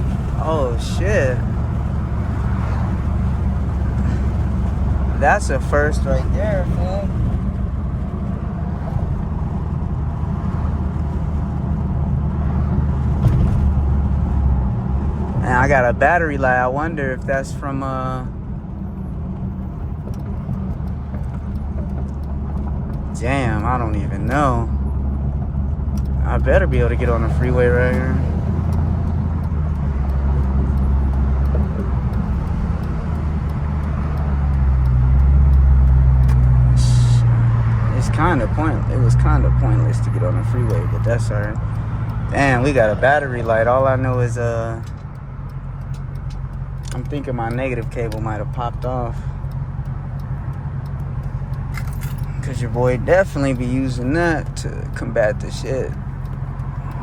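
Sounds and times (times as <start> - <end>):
car exhaust drone: 0.0 - 57.0.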